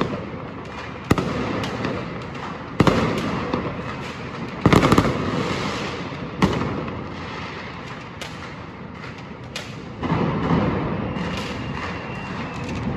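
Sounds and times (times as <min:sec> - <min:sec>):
fireworks bangs and bursts: 0:00.0 - 0:12.9.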